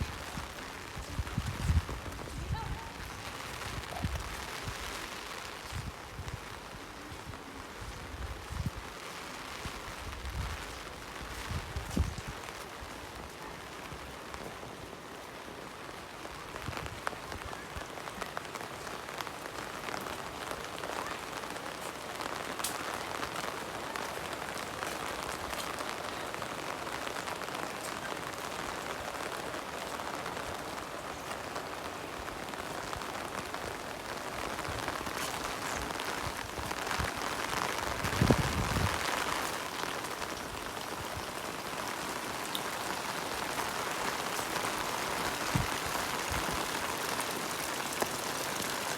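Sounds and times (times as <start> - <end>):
rain falling: 0.0 - 48.9.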